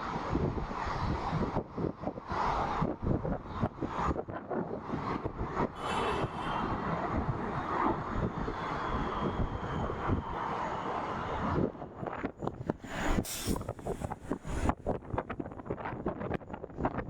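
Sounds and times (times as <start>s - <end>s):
wind buffeting microphone: 0.1s - 17.0s.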